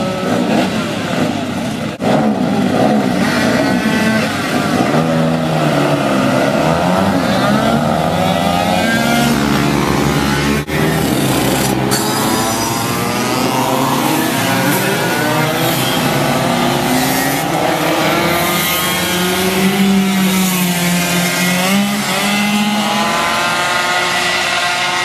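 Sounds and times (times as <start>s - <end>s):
motorcycles revving: 0.0s - 25.0s.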